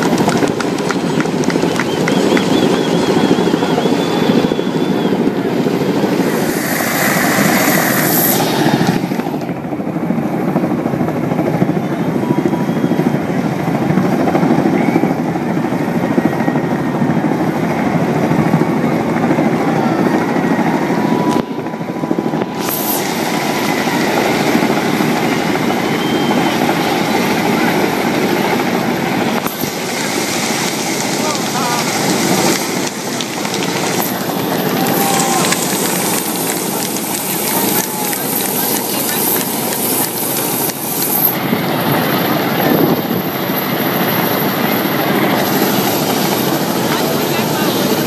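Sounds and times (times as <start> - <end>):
helicopter rotors chopping: 0.0 - 48.0
turbine noise: 0.0 - 48.0.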